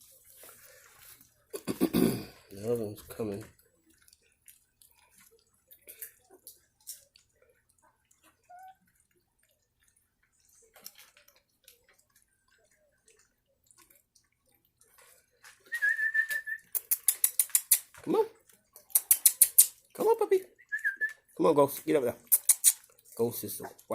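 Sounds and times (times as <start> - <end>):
puppies lapping food: 0.0 - 23.9.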